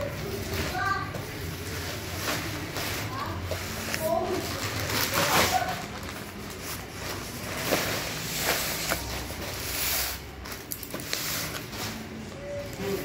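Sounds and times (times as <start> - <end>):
plastic film rustling: 0.0 - 13.0.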